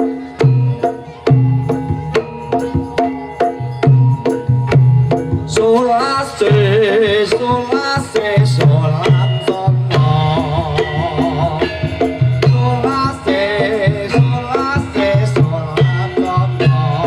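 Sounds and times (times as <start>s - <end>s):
hand drums playing: 0.0s - 17.0s
ringing metallic tones: 0.0s - 17.0s
wavering melodic line: 0.0s - 17.0s.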